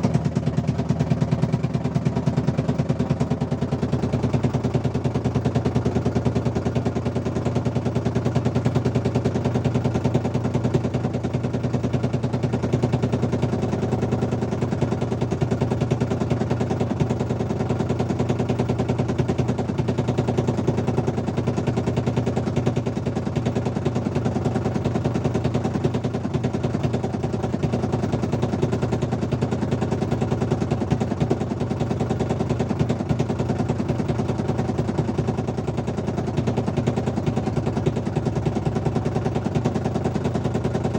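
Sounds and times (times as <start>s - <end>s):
small engine rattling: 0.0s - 40.9s.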